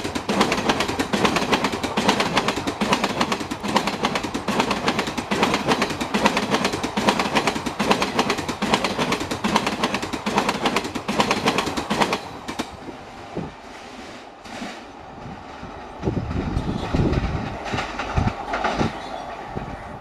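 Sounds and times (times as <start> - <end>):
train wheels clattering over rail joints: 0.0 - 13.6, 14.4 - 19.9
train rumble: 0.0 - 20.0.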